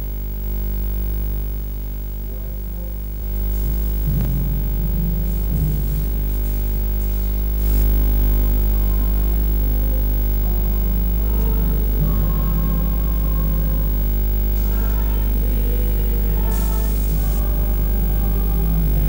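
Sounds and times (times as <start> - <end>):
electrical mains hum: 0.0 - 19.0
faint indistinct sounds: 0.4 - 19.0.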